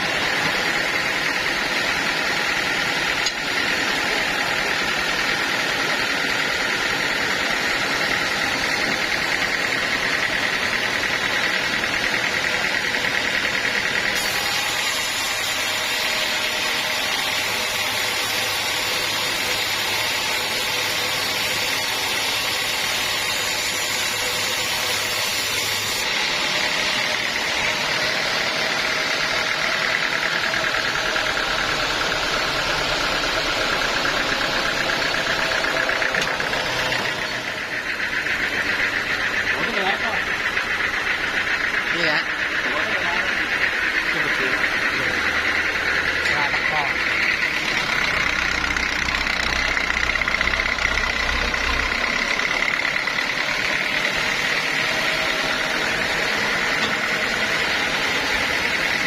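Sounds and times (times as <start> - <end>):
high saw whine: 0.0 - 59.0
sawmill machinery drone: 0.0 - 59.0.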